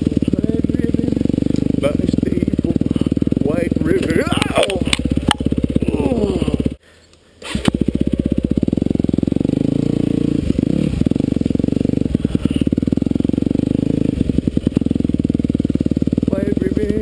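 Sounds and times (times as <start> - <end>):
dirt bike engine running: 0.0 - 6.8, 7.5 - 17.0.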